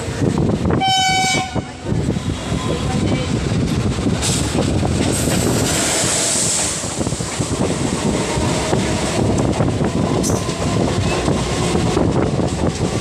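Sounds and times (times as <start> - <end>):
train wheel and track rumble: 0.0 - 13.0
passing train rushing hiss: 1.5 - 13.0.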